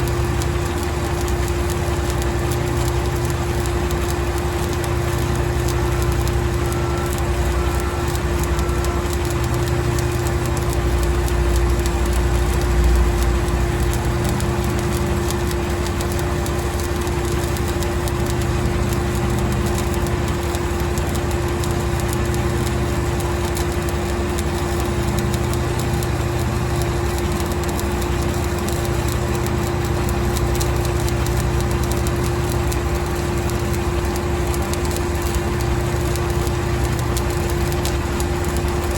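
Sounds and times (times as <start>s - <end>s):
crackling hiss: 0.0s - 38.9s
welding generator humming: 0.0s - 38.9s.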